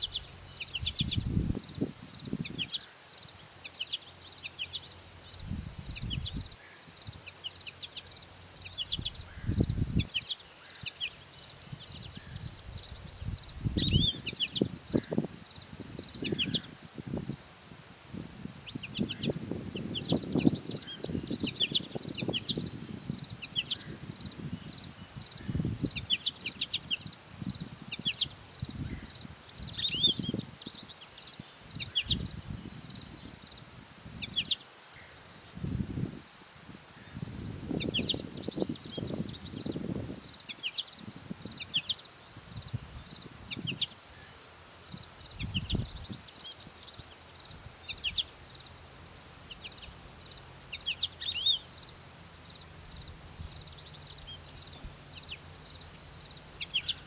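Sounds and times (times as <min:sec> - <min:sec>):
small birds chirping: 0:00.0 - 0:17.4, 0:18.1 - 0:33.4, 0:36.9 - 0:57.0
insects pulsing chorus: 0:00.0 - 0:57.0.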